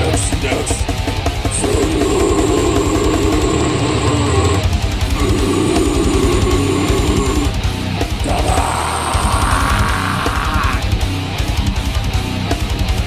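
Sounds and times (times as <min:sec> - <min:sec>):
distorted electric guitar chords: 0:00.0 - 0:13.0
fast drum beat: 0:00.0 - 0:13.0.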